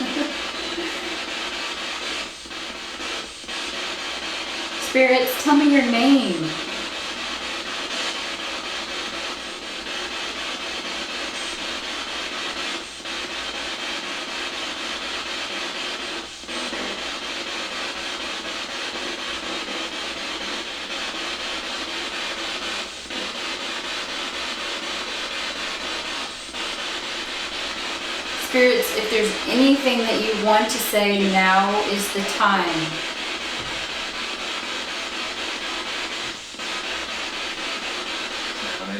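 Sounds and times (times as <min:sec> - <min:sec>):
radio static hiss: 0:00.0 - 0:38.9.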